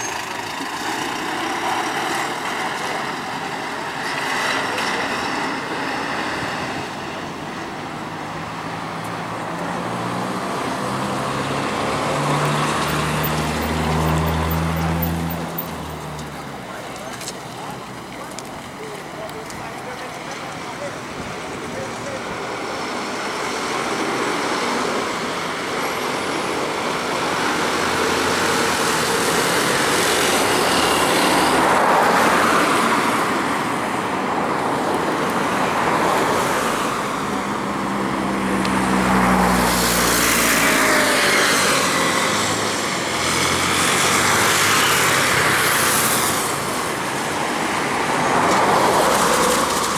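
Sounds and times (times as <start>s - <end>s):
road traffic passing: 0.0s - 49.9s
distant jet roar: 1.4s - 49.9s.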